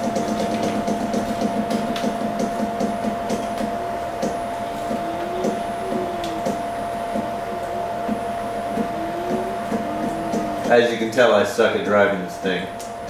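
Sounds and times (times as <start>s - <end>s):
stepper motors whining: 0.0s - 11.7s
steady high hum: 0.0s - 13.0s.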